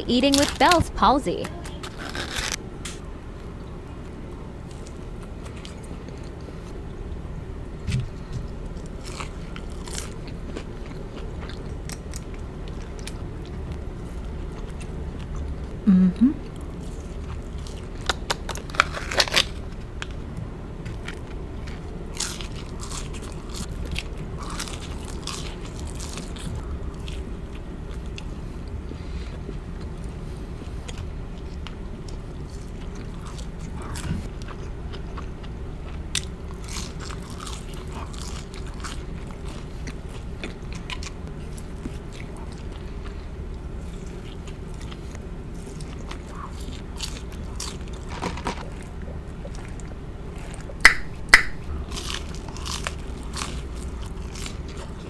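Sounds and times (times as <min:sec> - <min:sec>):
low background noise: 0:00.0 - 0:55.0
chewing crunchy food: 0:00.1 - 0:55.0.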